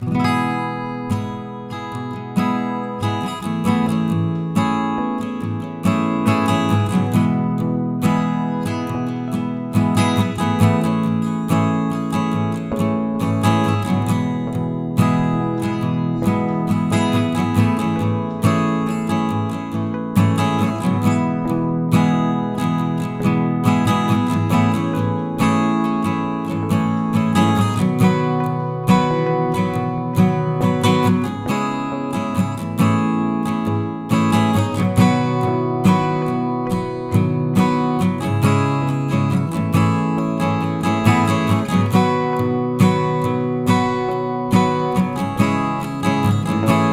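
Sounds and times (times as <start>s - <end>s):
acoustic guitar strummed and plucked: 0.0s - 46.9s.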